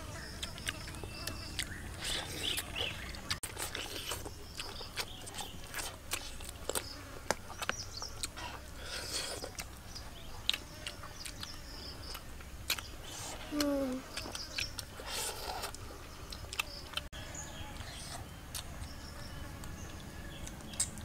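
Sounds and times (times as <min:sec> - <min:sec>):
faint buzz of insects: 0:00.0 - 0:21.0
chewing and lip smacks: 0:00.2 - 0:17.1, 0:17.7 - 0:19.0, 0:19.6 - 0:21.0.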